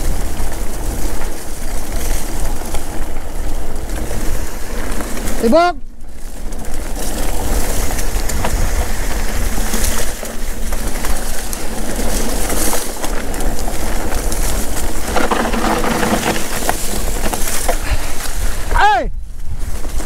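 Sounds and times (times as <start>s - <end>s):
bike rattling and clicking: 0.0s - 20.0s
bike tyres running over dirt: 0.0s - 20.0s
wind buffeting microphone: 0.0s - 20.0s.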